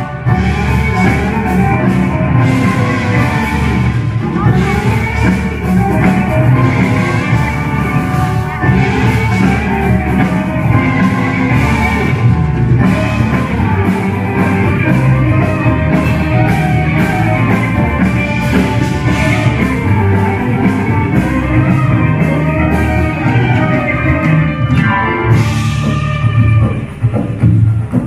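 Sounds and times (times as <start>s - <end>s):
bass guitar: 0.0s - 28.0s
drum kit: 0.0s - 28.0s
electric guitar: 0.0s - 28.0s.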